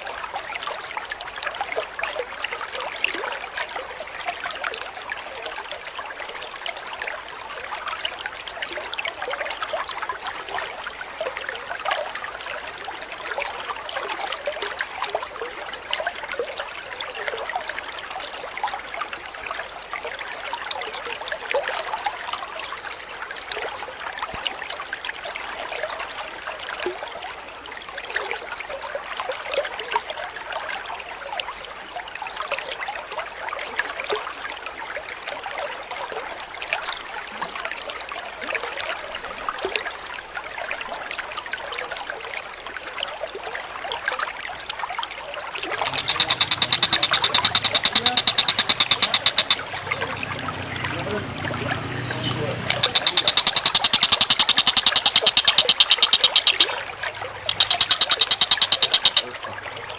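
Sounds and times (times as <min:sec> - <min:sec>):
water trickling and babbling: 0:00.0 - 0:59.9.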